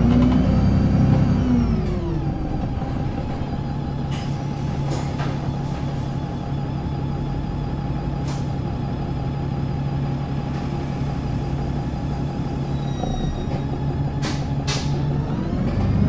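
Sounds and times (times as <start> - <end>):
bus diesel engine idling: 0.0 - 16.0.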